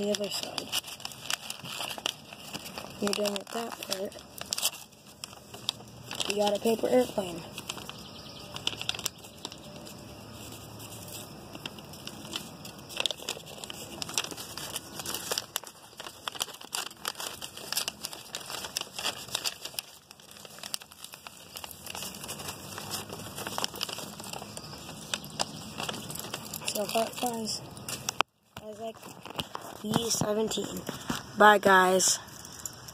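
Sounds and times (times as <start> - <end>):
paper rustling and crinkling: 0.0 - 32.9.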